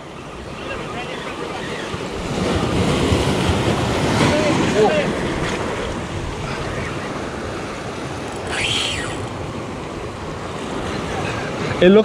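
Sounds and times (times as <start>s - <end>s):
surf breaking on rocks: 0.8s - 12.0s.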